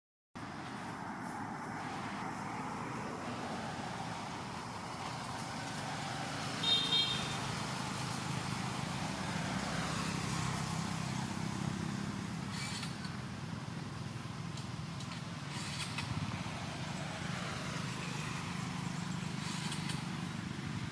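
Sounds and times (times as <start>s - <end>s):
low rumble of distant traffic: 0.4s - 20.9s.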